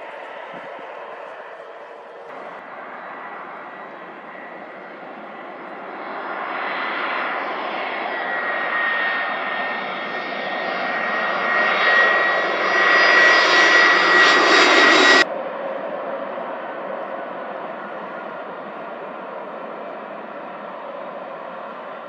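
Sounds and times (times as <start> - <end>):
high engine whine: 0.0 - 22.0
jet engines passing: 0.0 - 22.0.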